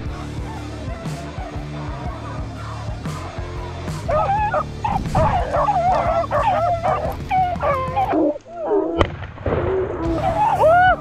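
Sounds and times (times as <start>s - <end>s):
hounds baying: 0.0s - 9.0s, 9.9s - 11.0s.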